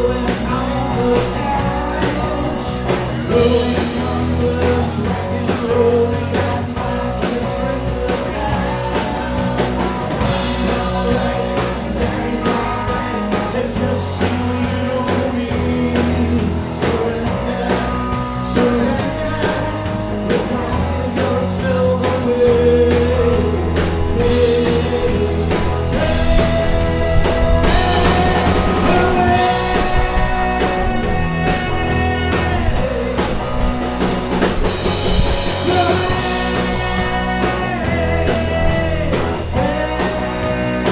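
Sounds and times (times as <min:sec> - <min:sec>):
person singing lead: 0:00.0 - 0:34.4, 0:35.2 - 0:40.9
live rock band playing: 0:00.0 - 0:40.9.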